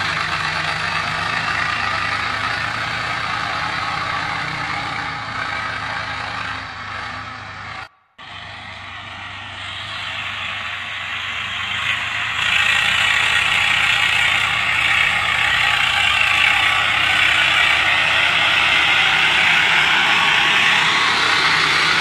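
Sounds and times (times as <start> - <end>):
tractor engine under load: 0.0 - 22.0
wheels spinning in sand: 0.0 - 22.0.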